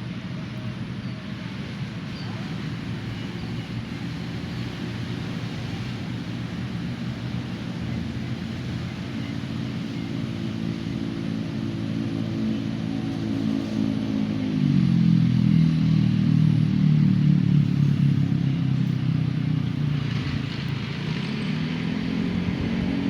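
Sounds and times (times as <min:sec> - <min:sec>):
traffic engines droning: 0:00.0 - 0:23.0.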